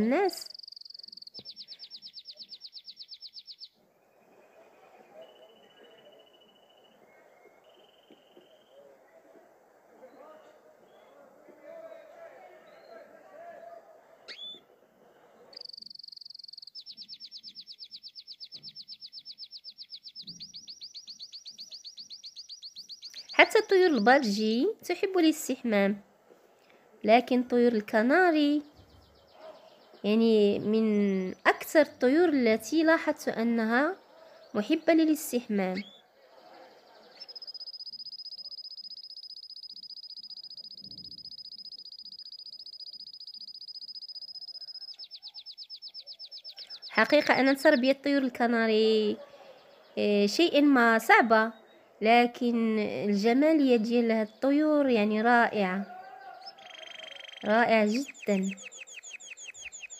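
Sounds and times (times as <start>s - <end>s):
canary singing: 0.0s - 8.8s, 14.2s - 14.8s, 15.5s - 25.6s, 27.2s - 59.9s.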